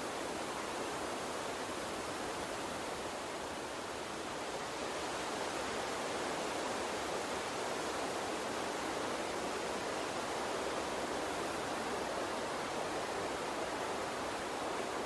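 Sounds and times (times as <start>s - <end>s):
gentle water stream flowing: 0.0s - 15.0s.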